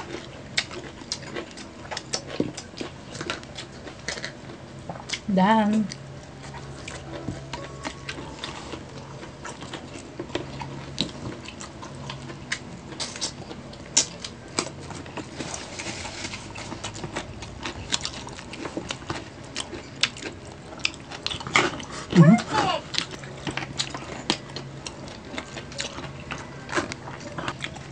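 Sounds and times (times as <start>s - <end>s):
people chewing: 0.0s - 27.9s.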